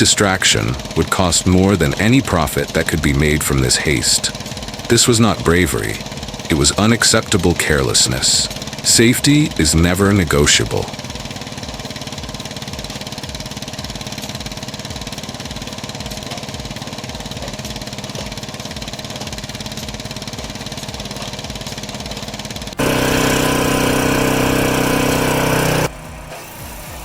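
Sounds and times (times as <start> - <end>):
engine low throb: 0.0 - 26.3
harsh machine drone: 0.0 - 27.0.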